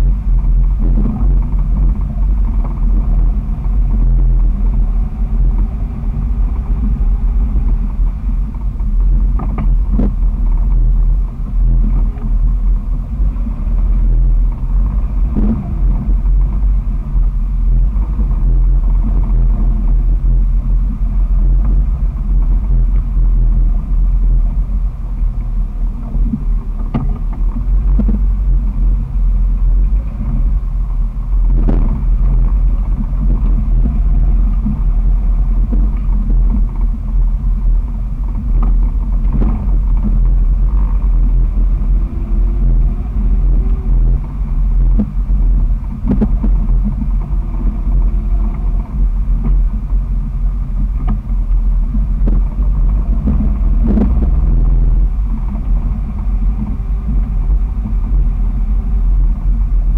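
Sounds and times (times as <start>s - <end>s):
engine rumbling loudly: 0.0s - 59.9s.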